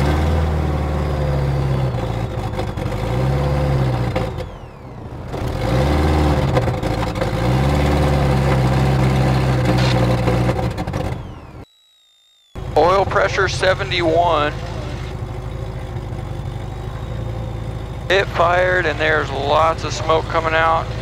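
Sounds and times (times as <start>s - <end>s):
airplane piston engine sputtering: 1.3s - 11.7s, 12.6s - 21.0s.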